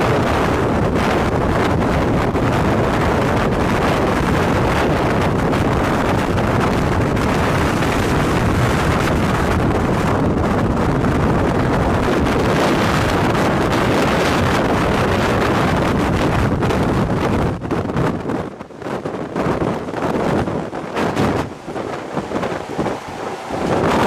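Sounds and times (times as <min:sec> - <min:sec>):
road noise inside moving vehicle: 0:00.0 - 0:24.0
strong wind rushing: 0:00.0 - 0:24.0
wind buffeting microphone: 0:00.0 - 0:24.0.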